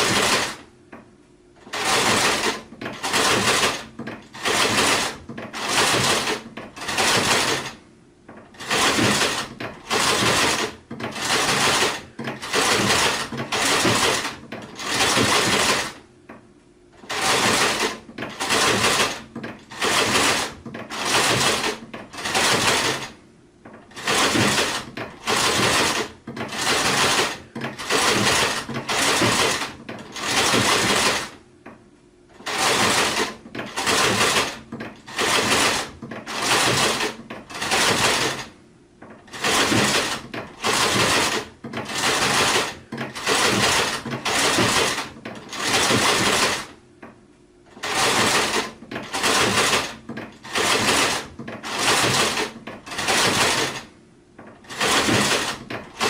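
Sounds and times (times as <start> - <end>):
sewing machine stitching: 0.0 - 0.7, 1.6 - 16.0, 17.0 - 31.4, 32.3 - 46.8, 47.7 - 56.0.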